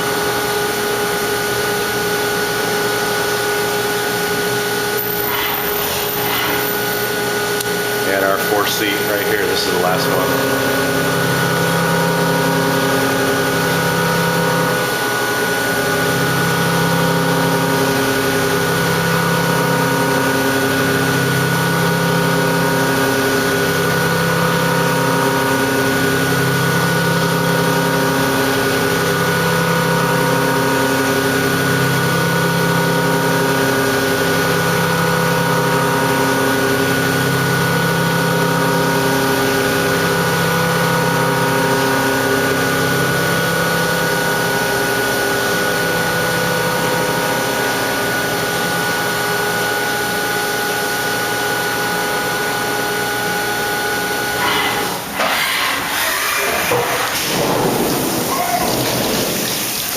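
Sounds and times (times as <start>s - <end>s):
machining spindle whine: 0.0s - 57.2s
low machine hum: 4.0s - 55.2s.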